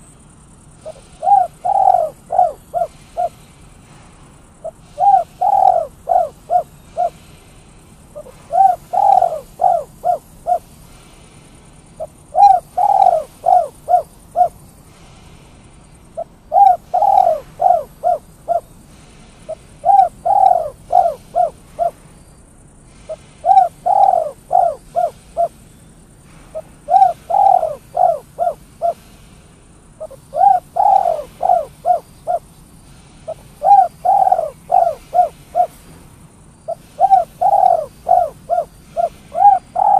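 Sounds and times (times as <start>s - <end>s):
dove cooing: 0.0s - 4.0s, 4.6s - 7.5s, 8.1s - 15.4s, 16.1s - 22.1s, 22.8s - 29.4s, 30.0s - 36.0s, 36.7s - 39.9s.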